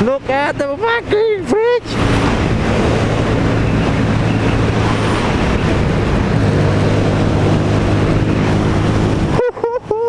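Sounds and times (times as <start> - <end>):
motorcycle engine cruising: 0.0 - 9.9
wind rush on microphone: 0.0 - 10.0.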